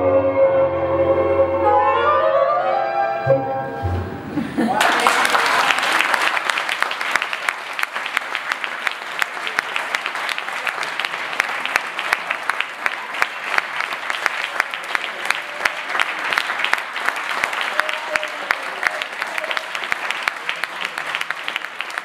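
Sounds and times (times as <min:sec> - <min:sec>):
audience applauding: 0:04.4 - 0:22.0.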